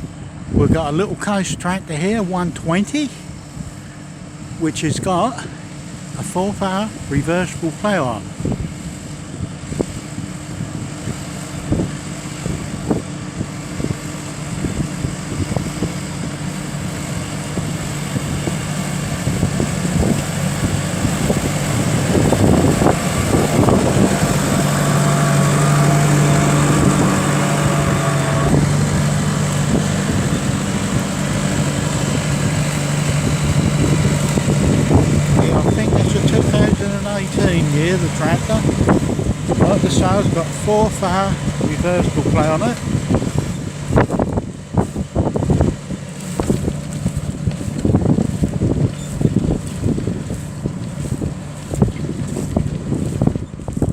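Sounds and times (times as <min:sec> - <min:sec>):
tractor diesel engine: 0:00.0 - 0:53.9.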